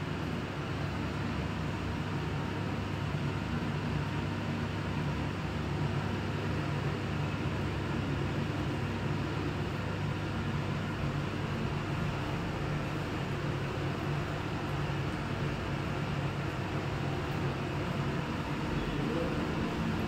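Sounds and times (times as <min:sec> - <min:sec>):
machine hum with airy whir: 0:00.0 - 0:20.0.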